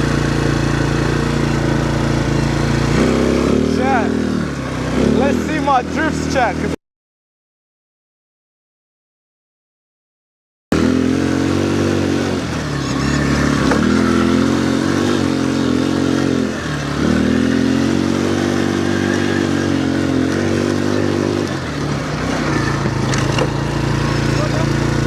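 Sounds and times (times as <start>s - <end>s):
quad bike engine revving: 0.0s - 6.8s, 10.7s - 25.0s.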